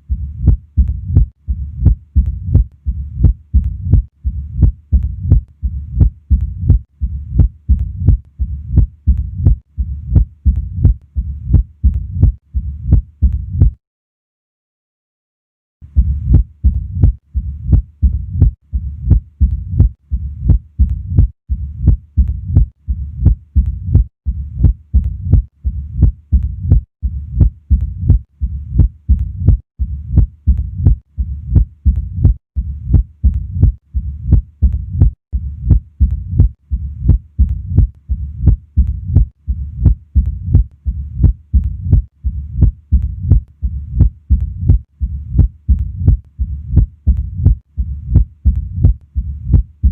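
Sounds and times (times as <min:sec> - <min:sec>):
sharp heartbeats: 0:00.0 - 0:13.8, 0:15.9 - 0:49.9
low rumbling heart murmur: 0:00.1 - 0:13.8, 0:16.0 - 0:49.9.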